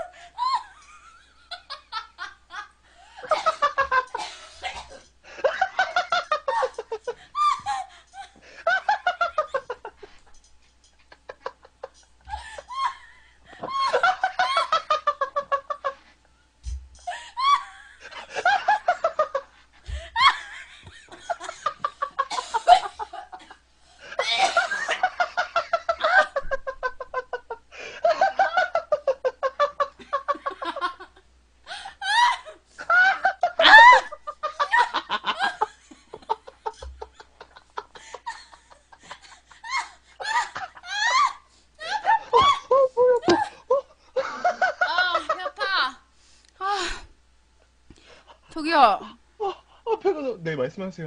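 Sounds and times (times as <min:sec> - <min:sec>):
woman laughing hysterically: 0:00.0 - 0:10.3, 0:11.0 - 0:16.1, 0:17.0 - 0:46.0.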